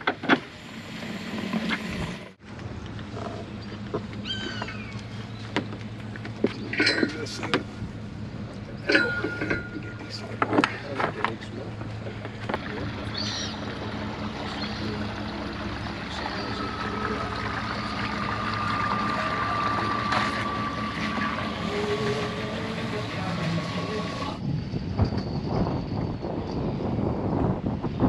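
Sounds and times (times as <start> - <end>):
boat engine humming: 0.0 - 24.4
thin whine: 3.4 - 28.0.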